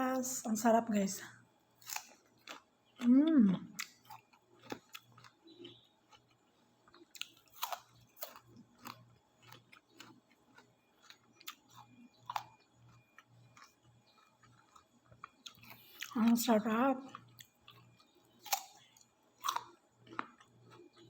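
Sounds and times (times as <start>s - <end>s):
chewing crunchy fruit: 1.7s - 21.0s.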